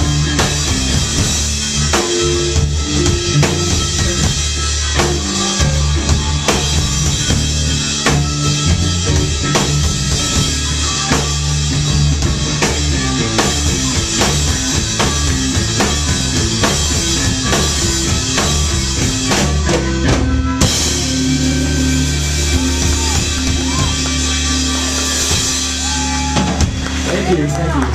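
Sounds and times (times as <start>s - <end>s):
blues harmonica: 0.0s - 27.0s
bass guitar: 0.0s - 27.9s
drum kit: 0.0s - 27.9s
electric guitar: 0.0s - 27.9s.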